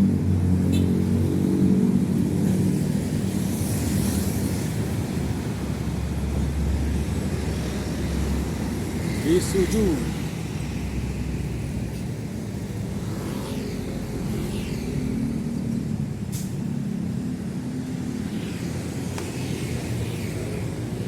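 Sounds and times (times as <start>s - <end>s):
heavy traffic passing: 0.0s - 21.0s
large vehicle engine and tyres: 0.0s - 21.0s.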